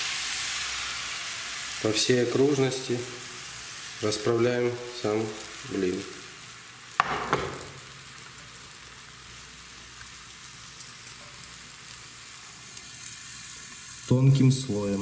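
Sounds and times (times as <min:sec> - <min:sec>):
batter sizzling in frying pan: 0:00.0 - 0:15.0.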